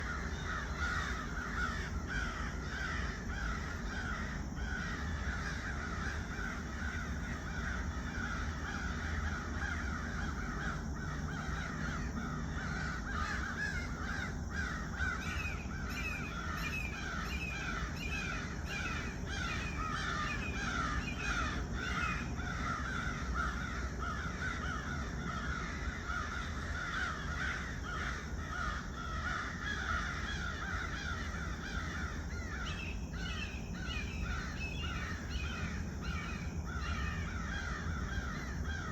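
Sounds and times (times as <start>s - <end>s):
crows cawing: 0.0s - 38.9s.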